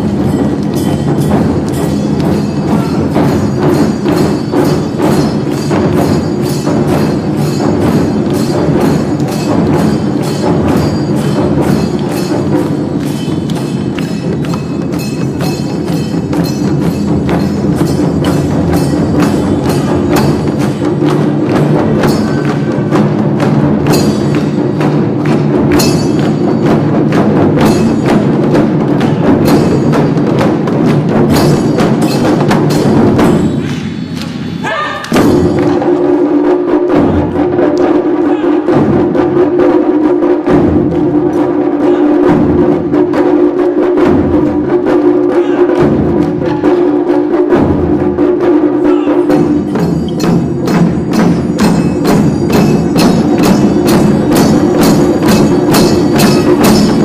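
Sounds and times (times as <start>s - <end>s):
drum ensemble in fast rhythm: 0.0s - 57.0s.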